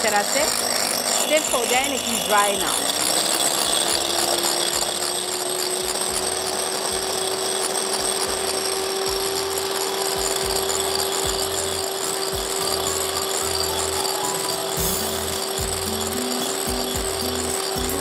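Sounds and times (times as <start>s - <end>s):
electric hand mixer running: 0.0s - 18.0s
low knocks of mixer beaters: 0.0s - 18.0s.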